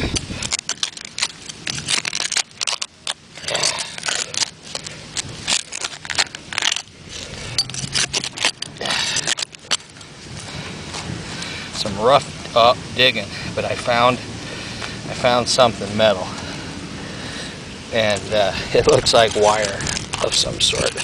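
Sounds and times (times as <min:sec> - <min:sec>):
digging tool scraping gravelly soil: 0:00.0 - 0:14.2, 0:18.0 - 0:21.0.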